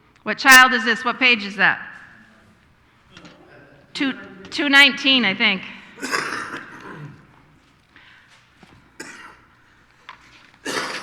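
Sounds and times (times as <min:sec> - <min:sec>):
people coughing: 0:00.5 - 0:11.0
throat clearing: 0:02.0 - 0:11.0.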